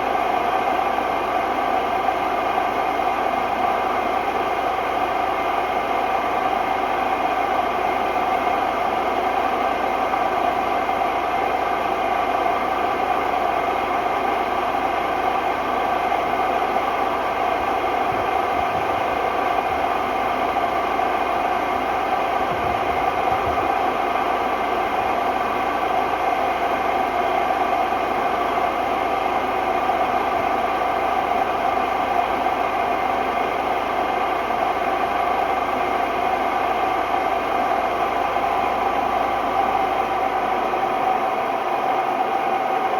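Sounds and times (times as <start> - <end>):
washing machine spinning with whine: 0.0 - 42.9.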